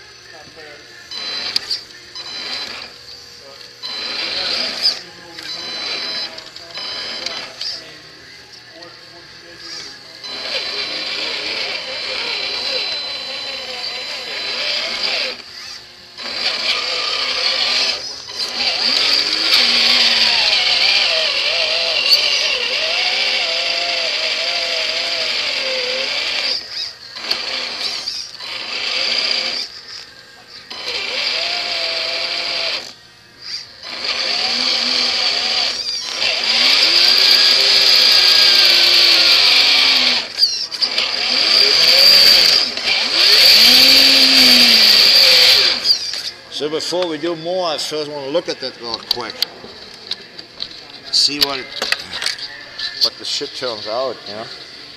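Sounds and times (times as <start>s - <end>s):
electric motor and gearbox whining: 0.0s - 54.9s.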